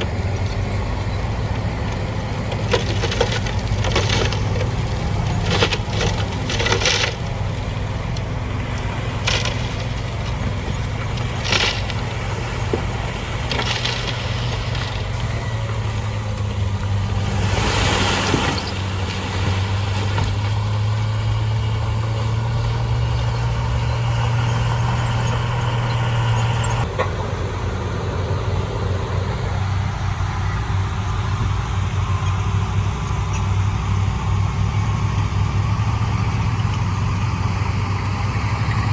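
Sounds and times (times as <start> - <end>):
heavy diesel engine humming: 0.0 - 38.9.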